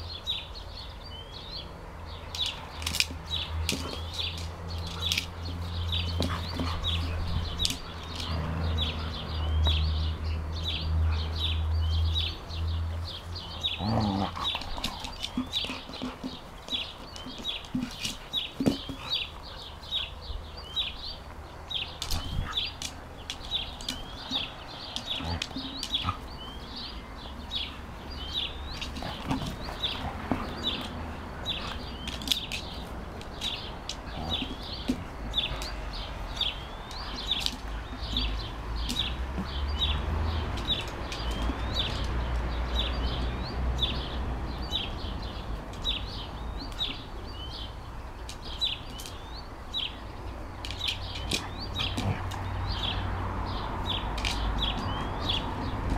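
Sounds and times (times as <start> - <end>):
small bird chirping: 0.0 - 55.9.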